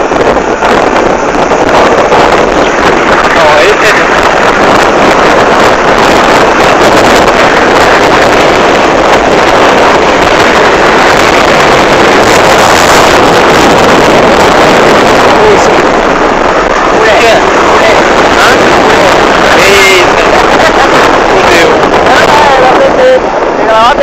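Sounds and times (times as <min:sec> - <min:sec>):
motorcycle engine running: 0:00.0 - 0:23.0
wind rushing over microphone: 0:00.0 - 0:24.0.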